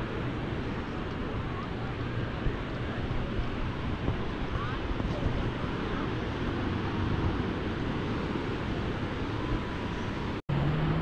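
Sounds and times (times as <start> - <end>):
small waves breaking on beach: 0.0 - 10.4
wind buffeting microphone: 0.0 - 10.4.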